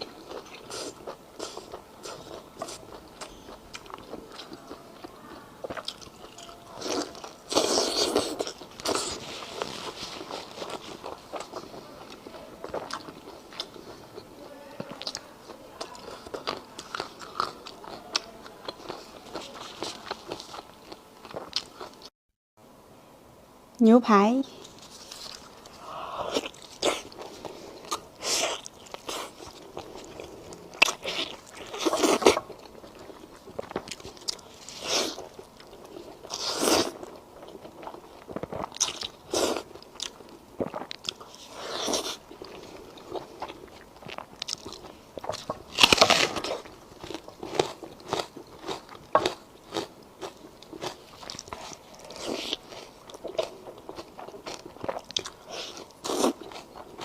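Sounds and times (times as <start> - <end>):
person chewing crunchy food: 0.0 - 15.2, 15.8 - 22.1, 24.6 - 57.0.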